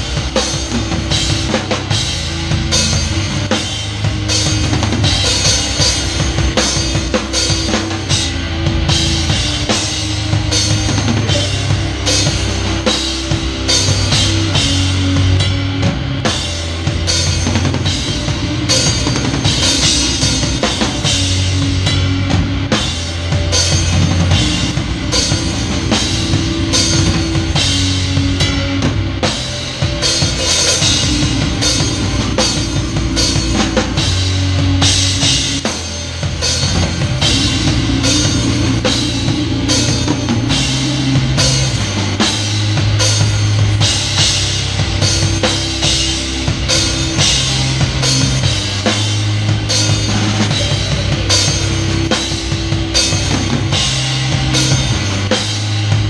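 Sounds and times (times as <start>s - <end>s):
fast drums and cymbals: 0.0s - 56.0s
grindcore band playing live: 0.0s - 56.0s.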